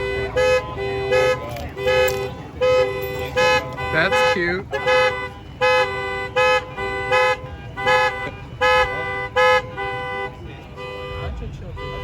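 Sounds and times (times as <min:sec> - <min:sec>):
vehicle horn blasts: 0:00.0 - 0:12.0.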